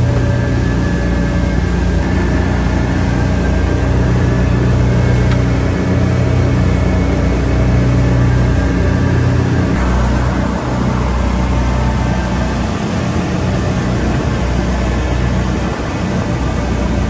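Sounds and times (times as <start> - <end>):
outboard motors droning: 0.0 - 17.0
rush of wind and water: 0.0 - 17.0.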